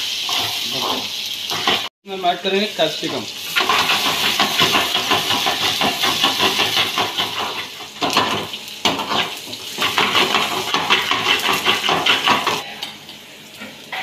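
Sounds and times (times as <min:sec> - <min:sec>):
food sizzling: 0:00.0 - 0:14.0.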